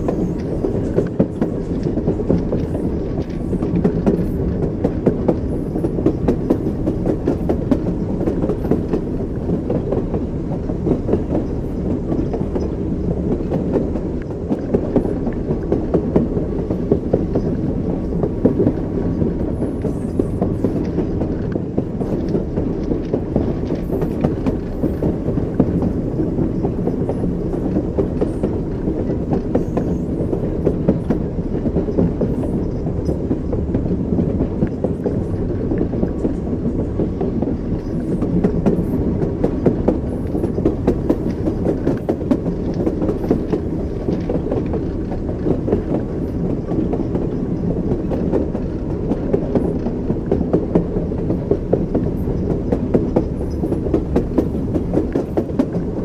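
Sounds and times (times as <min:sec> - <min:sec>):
train rumble: 0:00.0 - 0:56.0
train wheels clicking over joints: 0:00.0 - 0:56.0.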